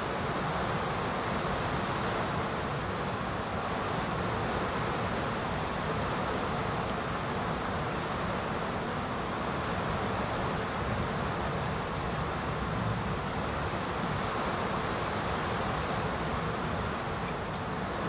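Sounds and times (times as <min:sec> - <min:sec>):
background hiss and rumble: 0:00.0 - 0:18.0.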